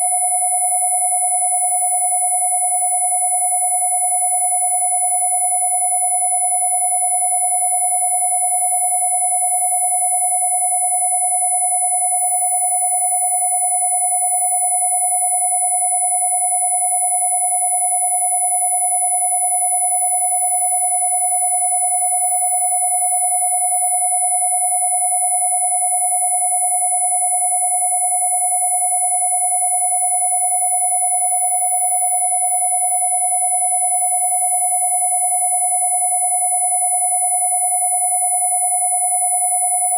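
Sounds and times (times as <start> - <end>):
mid-pitched sine tone: 0.0 - 39.9.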